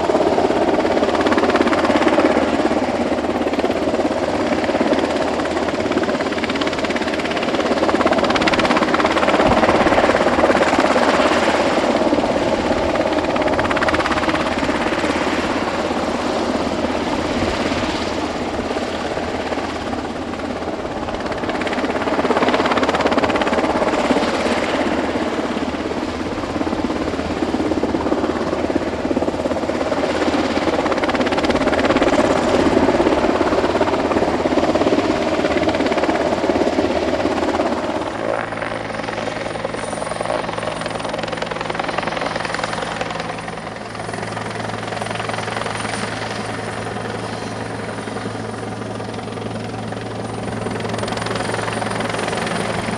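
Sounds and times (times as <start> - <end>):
helicopter low hum and high whine: 0.0 - 52.9
helicopter rotor and turbine: 0.0 - 52.9.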